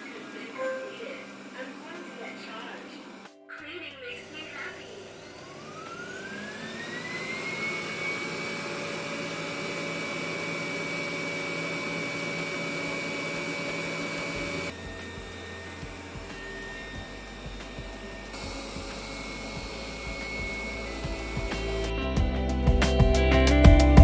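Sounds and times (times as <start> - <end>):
robot vacuum fan whining: 0.0 - 24.0.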